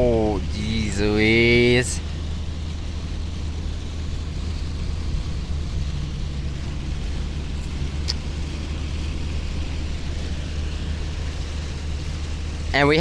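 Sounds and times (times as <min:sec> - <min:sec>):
truck engine rumbling inside cab: 0:00.0 - 0:13.0.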